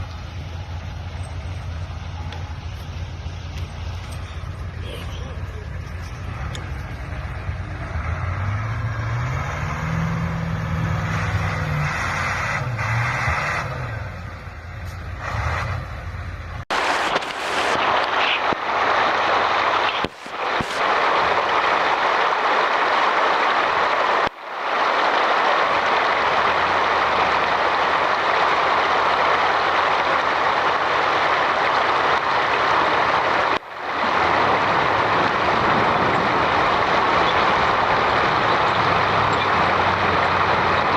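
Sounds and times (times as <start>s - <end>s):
heavy truck engine revving: 0.0s - 40.9s.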